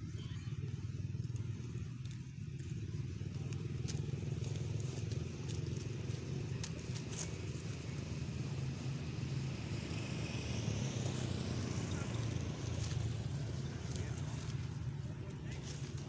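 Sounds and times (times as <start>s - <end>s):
dry leaves crackling: 0.0s - 16.0s
steady low rumble: 0.0s - 16.0s.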